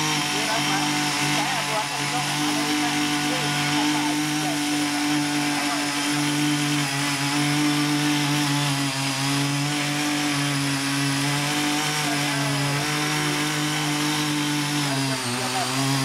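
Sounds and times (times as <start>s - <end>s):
garden tiller engine running: 0.0s - 16.0s
tines churning soil: 0.0s - 16.0s.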